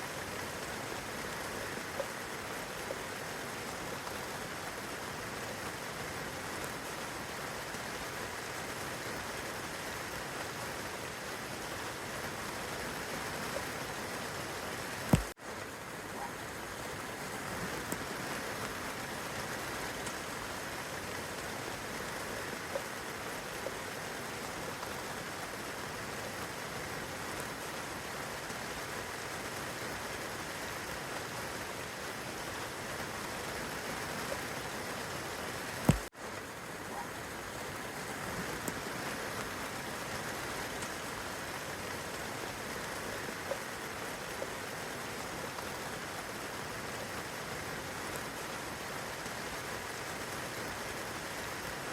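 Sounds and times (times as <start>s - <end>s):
rain on tree and grass: 0.0s - 51.9s.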